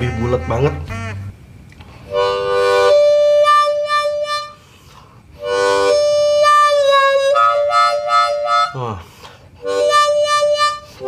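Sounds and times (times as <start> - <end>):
harmonica with wah-wah cupping: 0.0 - 1.4, 2.1 - 4.6, 5.4 - 9.0, 9.6 - 11.0.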